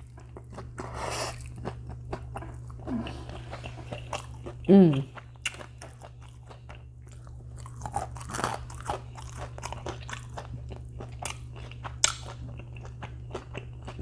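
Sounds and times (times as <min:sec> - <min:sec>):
crunchy chewing: 0:00.0 - 0:14.0.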